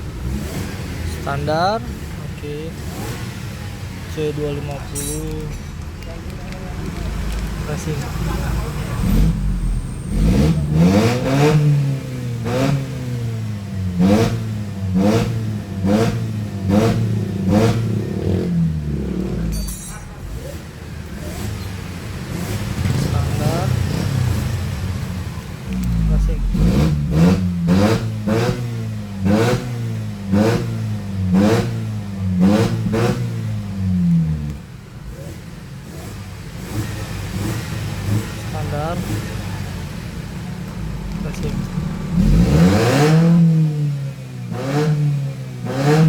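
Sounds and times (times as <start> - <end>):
car engine revving over idle: 0.0 - 46.0.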